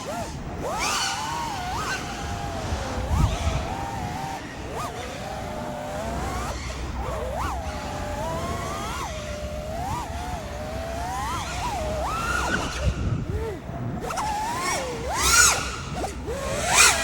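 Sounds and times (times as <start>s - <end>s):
drone motors whining: 0.0s - 17.0s
wind rumble on microphone: 0.1s - 17.0s.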